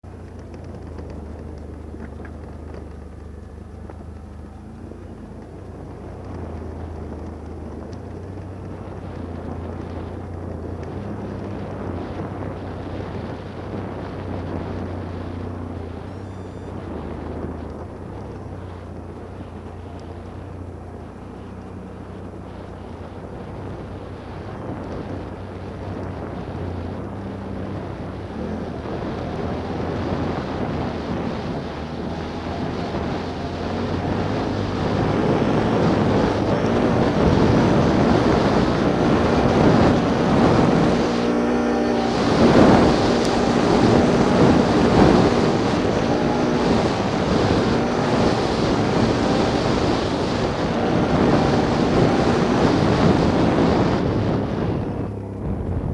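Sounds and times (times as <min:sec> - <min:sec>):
vehicle engines revving: 0:00.0 - 0:55.9
wind buffeting microphone: 0:00.0 - 0:55.9.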